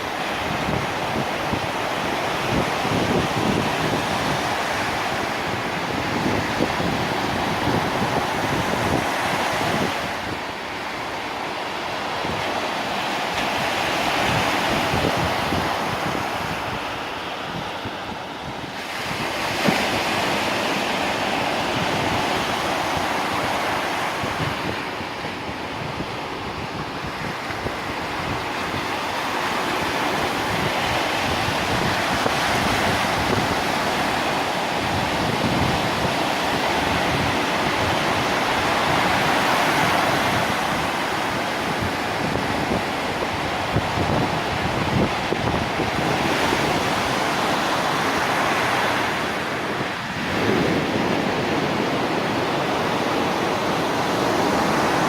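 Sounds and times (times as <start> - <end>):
surf breaking on a beach: 0.0 - 55.0
wind buffeting microphone: 0.0 - 55.0.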